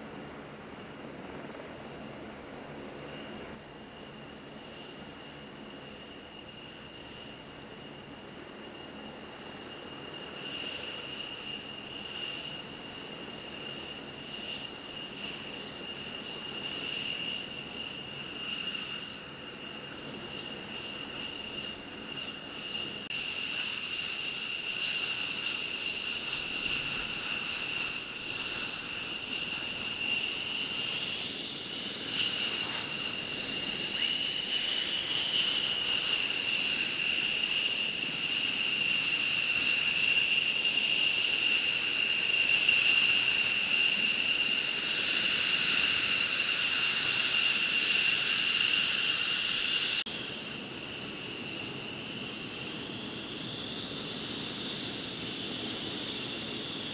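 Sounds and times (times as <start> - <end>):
jet engines whining: 0.0 - 56.9.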